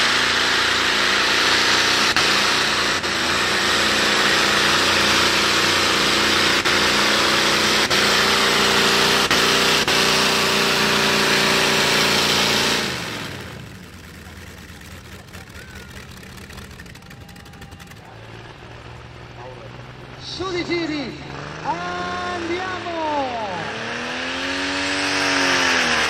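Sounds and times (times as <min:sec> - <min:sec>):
supercharged tractor engine roaring: 0:00.0 - 0:26.0.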